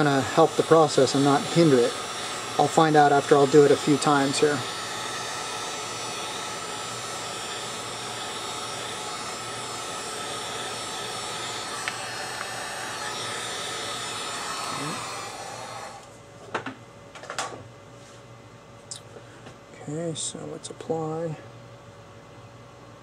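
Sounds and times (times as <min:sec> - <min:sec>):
hot-air blower running: 0:00.0 - 0:22.0.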